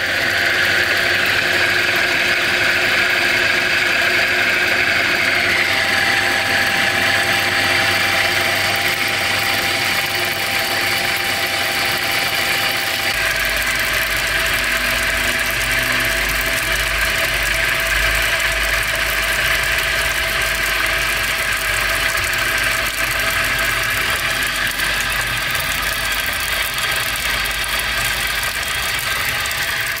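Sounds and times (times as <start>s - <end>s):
electric motor running: 0.0s - 30.0s
water gushing from pipe: 0.0s - 30.0s.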